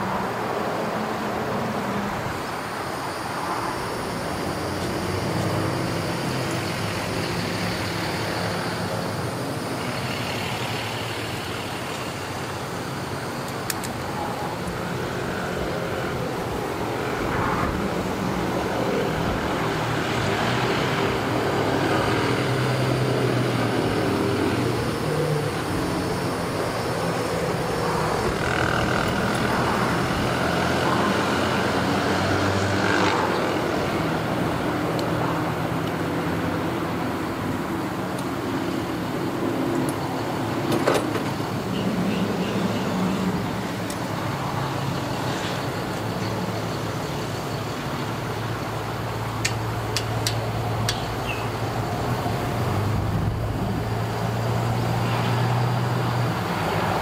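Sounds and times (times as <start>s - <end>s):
engines humming: 0.0s - 57.0s.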